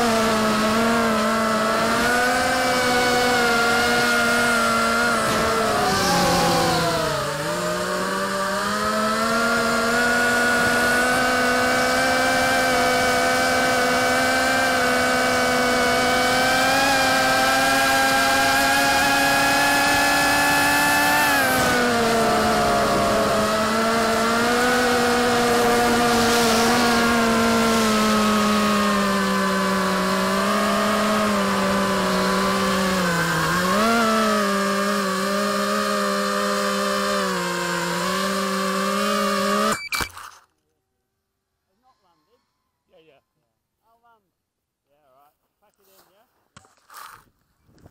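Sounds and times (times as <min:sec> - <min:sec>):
drone motors whining: 0:00.0 - 0:40.5.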